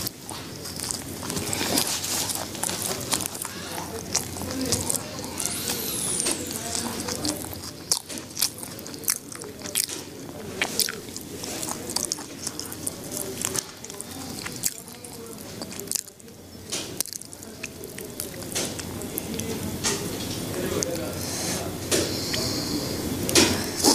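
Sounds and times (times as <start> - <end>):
small clicks and crunches: 0.0 - 21.1
low murmur: 0.0 - 23.9.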